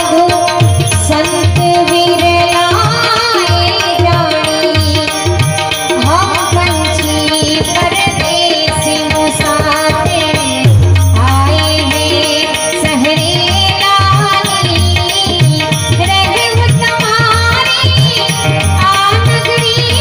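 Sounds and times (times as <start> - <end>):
steady drum beat: 0.0 - 20.0.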